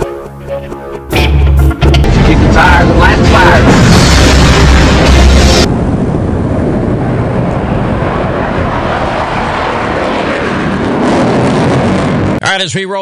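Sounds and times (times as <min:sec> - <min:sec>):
loud sound cutting off: 0:01.1 - 0:12.4
jet engine rushing noise: 0:01.1 - 0:12.8.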